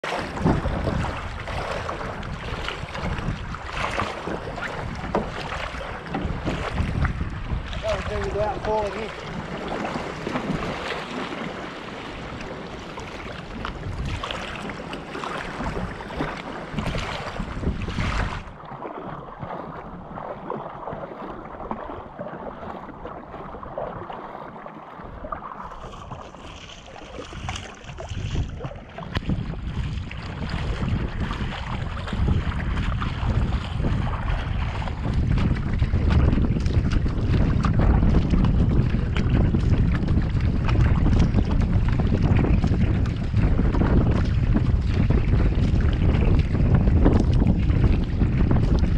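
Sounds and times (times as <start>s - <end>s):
water lapping against kayak hull: 0.0s - 48.9s
wind buffeting microphone: 0.0s - 48.9s.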